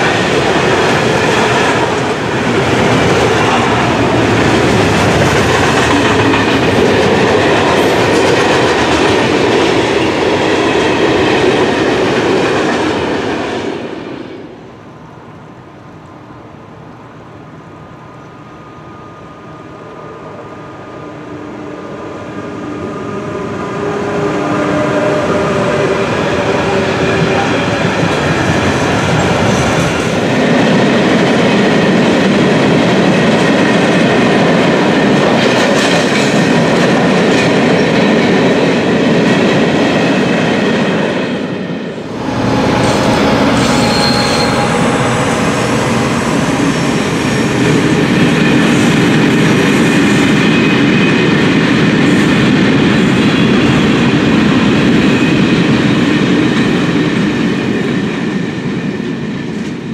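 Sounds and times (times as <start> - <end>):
train wheels clattering on rail: 0.0 - 14.2, 24.8 - 59.9
distant train tones: 0.0 - 58.4.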